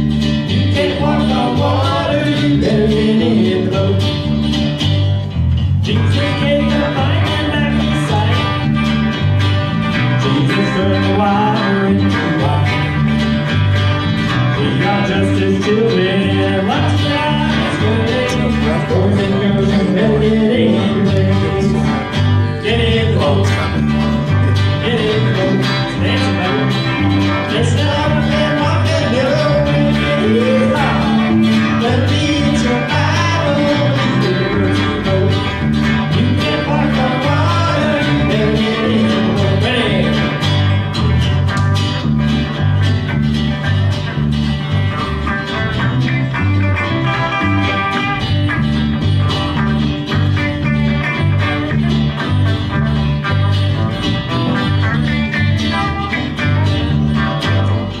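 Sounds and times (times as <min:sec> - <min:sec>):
country gospel band playing: 0:00.0 - 0:58.0.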